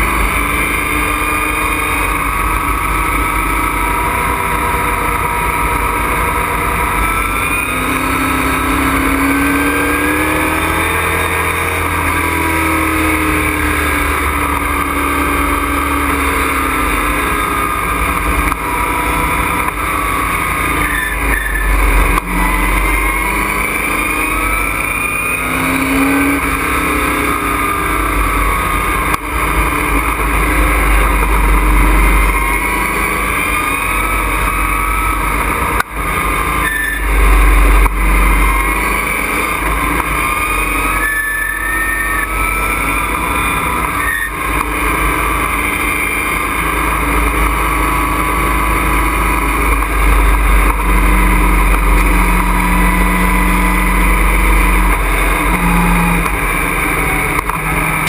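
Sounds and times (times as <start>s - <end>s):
race truck engine revving: 0.0s - 58.0s
road and wind noise: 0.0s - 58.0s.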